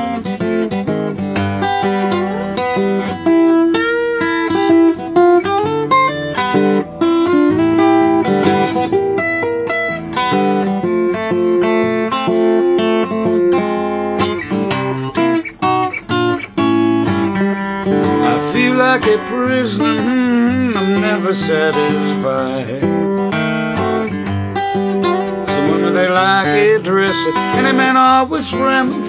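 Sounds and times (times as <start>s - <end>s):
acoustic guitar blues: 0.0s - 29.0s.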